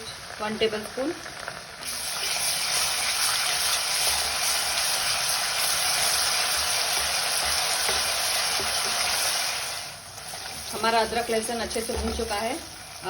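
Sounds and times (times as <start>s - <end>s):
paste sizzling in hot oil: 0.1s - 13.0s.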